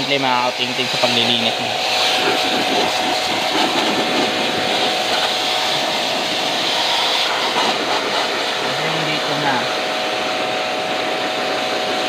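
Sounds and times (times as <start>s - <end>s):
motor hum: 0.0s - 12.0s
pressure washer spraying metal: 0.0s - 12.0s.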